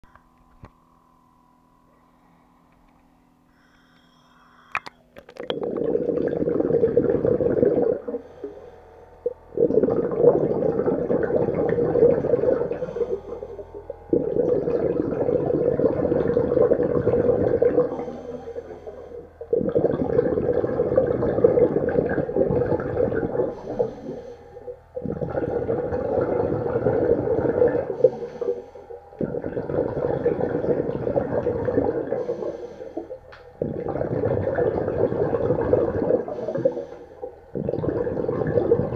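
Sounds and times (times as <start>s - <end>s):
underwater breath bubbles: 5.4s - 38.9s.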